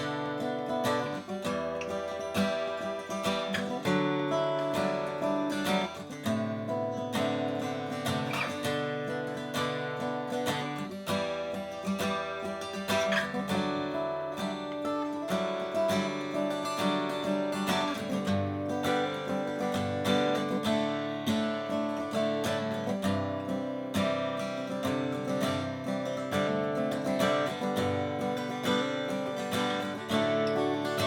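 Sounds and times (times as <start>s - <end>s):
acoustic guitar plucked and strummed: 0.0s - 31.0s.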